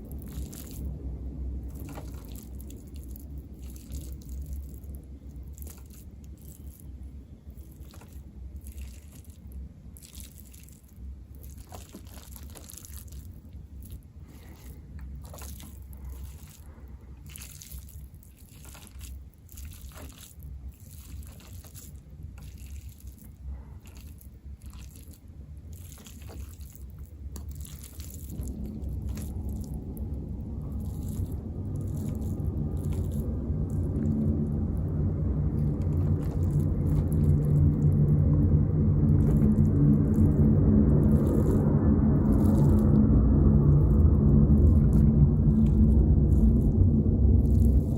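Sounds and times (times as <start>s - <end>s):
person chewing food: 0.0s - 47.9s
steady low hum: 0.0s - 47.9s.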